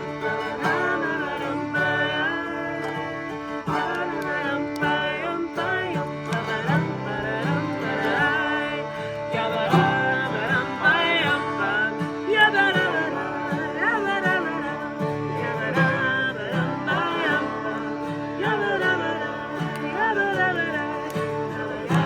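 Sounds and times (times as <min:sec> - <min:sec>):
person singing wordless melody: 0:00.0 - 0:22.0
plucked string accompaniment: 0:00.0 - 0:22.0.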